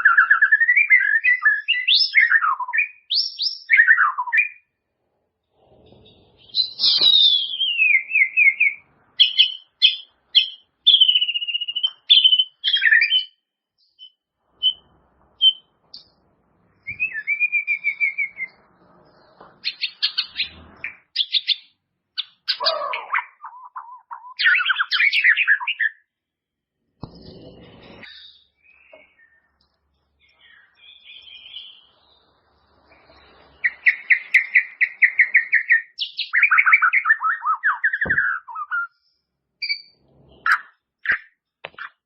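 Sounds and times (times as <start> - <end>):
bird singing whistled phrases: 0.0 - 4.7, 6.4 - 16.1, 16.8 - 26.1, 28.0 - 29.5, 30.2 - 32.0, 32.9 - 39.0, 39.6 - 41.4.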